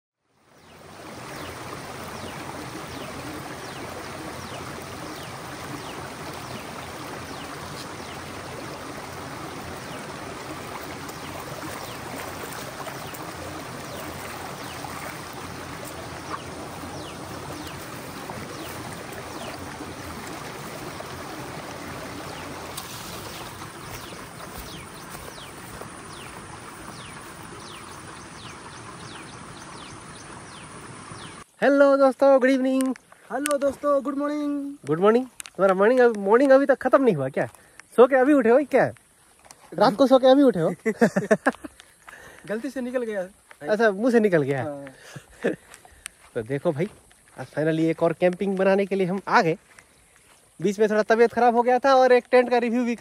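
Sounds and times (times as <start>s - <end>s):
creek water flowing over rocks: 0.3s - 53.0s.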